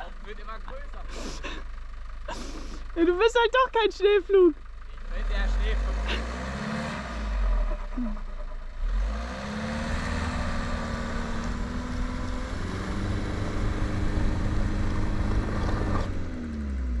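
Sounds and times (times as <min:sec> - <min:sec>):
van engine revving: 0:00.0 - 0:17.0.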